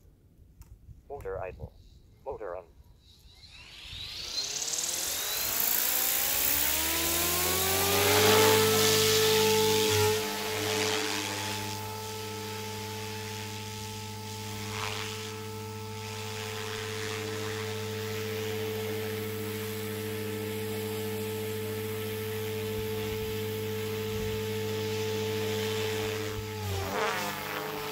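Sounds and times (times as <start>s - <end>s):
rc helicopter rotor hum and whine: 2.8s - 27.9s.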